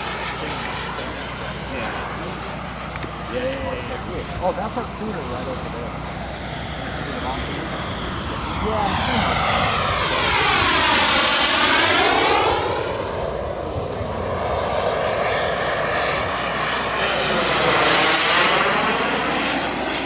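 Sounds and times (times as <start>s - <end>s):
jet turbine whine flying past: 0.0s - 20.0s.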